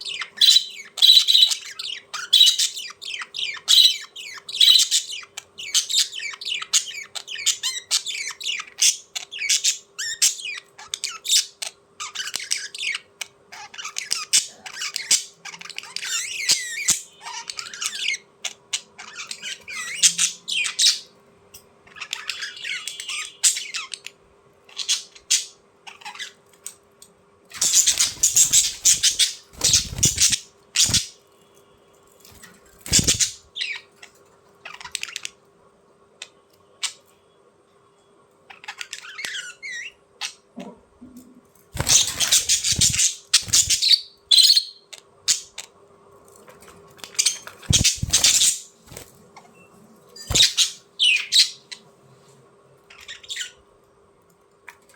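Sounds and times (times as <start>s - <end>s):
small birds chirping and squawking: 0.0s - 37.3s, 38.3s - 53.8s, 54.4s - 54.9s.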